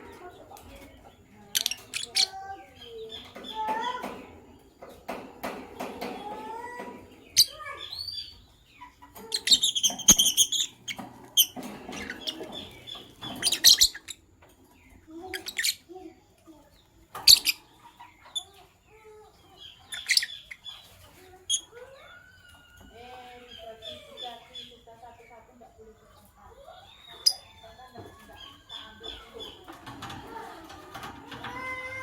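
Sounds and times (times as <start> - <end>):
lovebirds chirping: 0.0 - 32.0.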